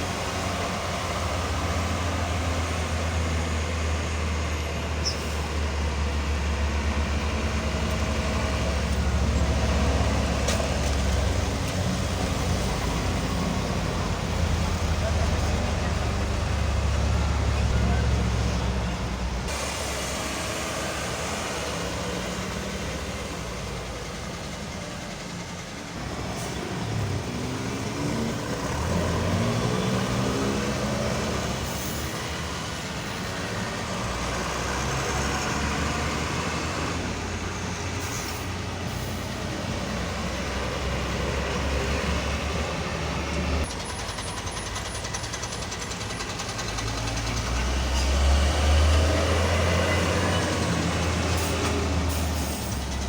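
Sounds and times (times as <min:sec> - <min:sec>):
engine revving: 0:00.0 - 0:24.6, 0:26.0 - 0:43.7, 0:44.5 - 0:53.0
heavy vehicle engines running: 0:00.0 - 0:53.0.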